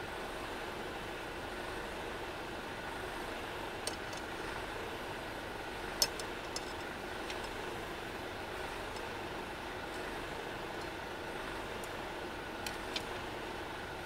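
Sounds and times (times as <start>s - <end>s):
camping stove burner running: 0.0s - 14.0s.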